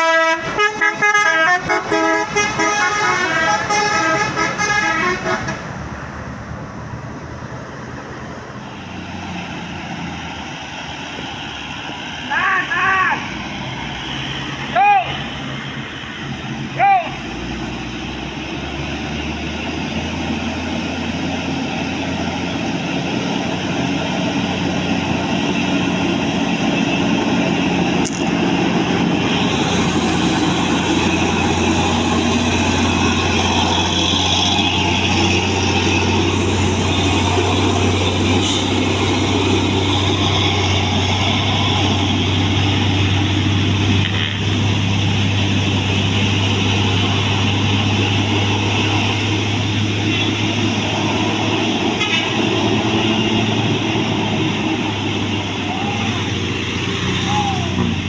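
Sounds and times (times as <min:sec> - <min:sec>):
bus engine running: 0:00.0 - 0:58.0
road noise: 0:00.0 - 0:58.0.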